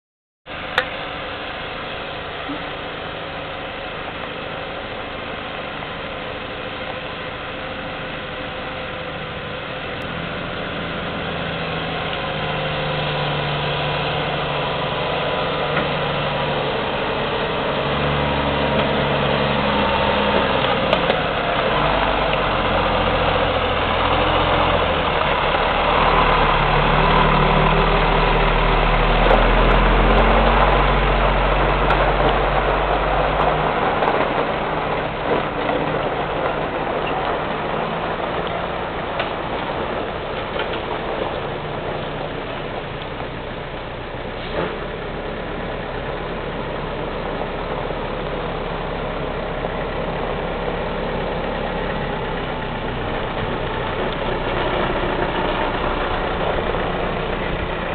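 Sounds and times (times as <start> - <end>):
truck diesel engine approaching: 0.5 - 57.9.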